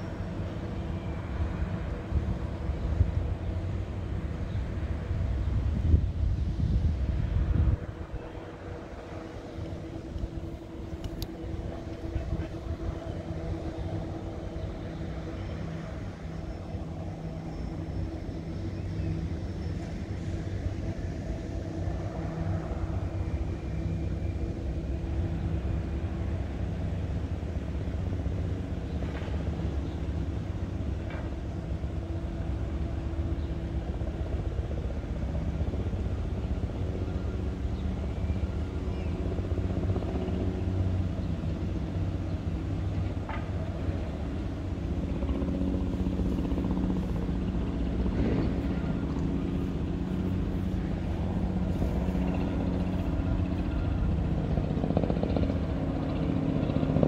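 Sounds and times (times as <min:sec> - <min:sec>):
diesel locomotive drone: 0:00.0 - 0:57.0.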